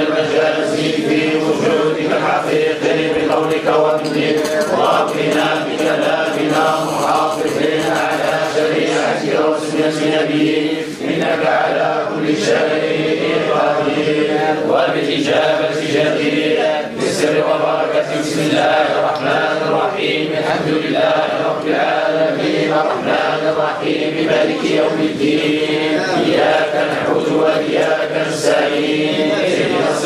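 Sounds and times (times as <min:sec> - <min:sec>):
men chanting in unison: 0:00.0 - 0:30.0.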